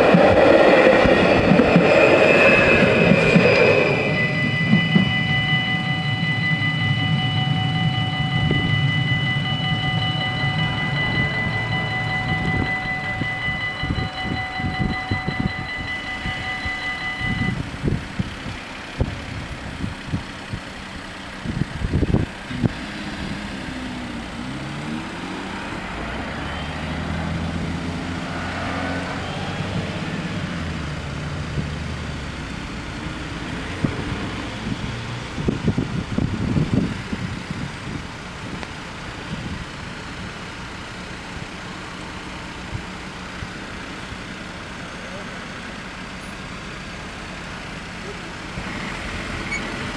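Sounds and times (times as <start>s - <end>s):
crossing warning bells ringing: 0.0s - 22.0s, 23.5s - 49.9s
bus and car engines: 0.0s - 49.9s
train rumble: 0.0s - 49.9s.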